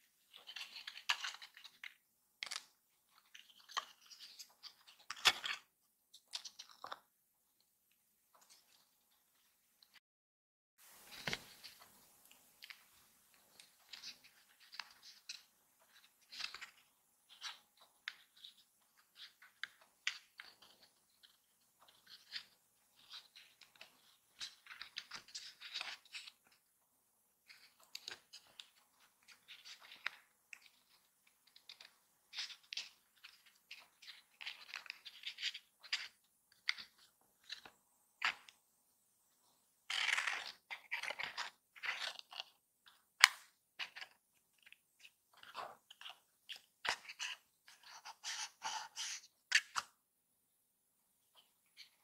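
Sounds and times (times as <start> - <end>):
card and paper rustling: 0.2 - 7.1, 10.8 - 26.7, 27.4 - 38.6, 39.9 - 50.0.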